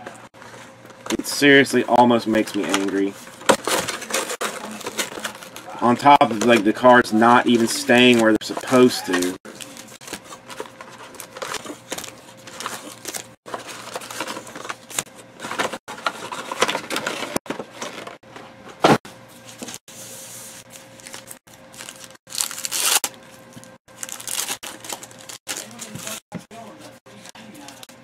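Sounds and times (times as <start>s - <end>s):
foil packs rustling and crinkling: 0.4s - 18.2s, 20.7s - 26.2s.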